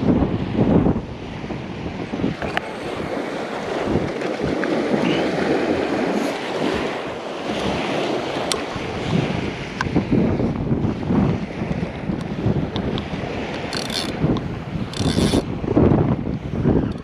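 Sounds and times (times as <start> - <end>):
surf on a beach: 0.0 - 17.0
wind buffeting microphone: 0.0 - 17.0.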